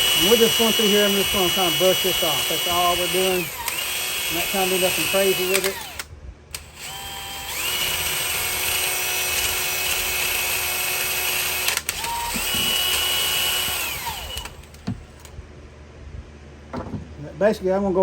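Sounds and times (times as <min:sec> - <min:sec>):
electric drill with wire brush scrubbing: 0:00.0 - 0:14.8.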